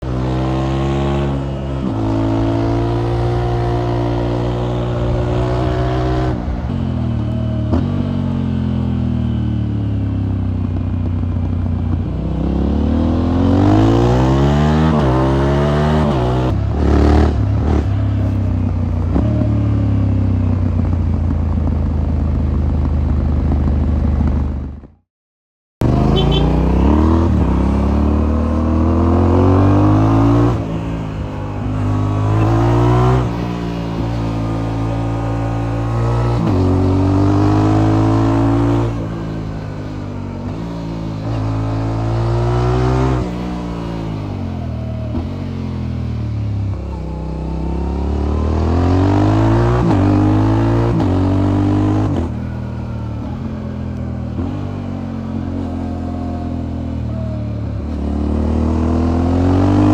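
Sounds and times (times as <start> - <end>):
motorcycle engine accelerating: 0.0 - 25.0, 25.8 - 59.9.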